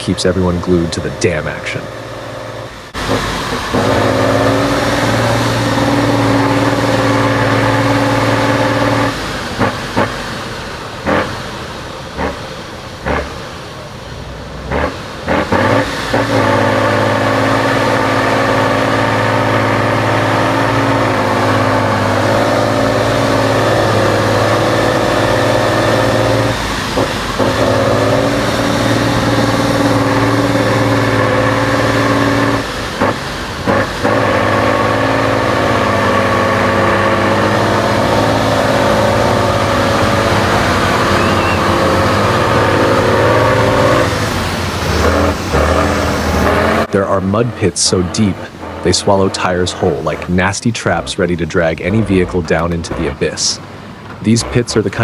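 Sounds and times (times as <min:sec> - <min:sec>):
truck engine running hard: 0:00.0 - 0:55.0.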